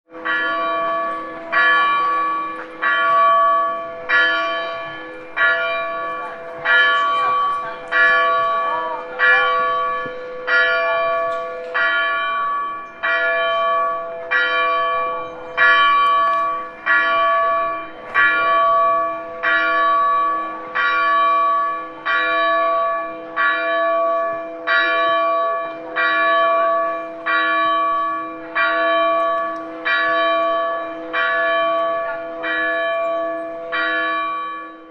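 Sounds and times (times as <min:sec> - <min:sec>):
church bell tolling: 0:00.1 - 0:34.9.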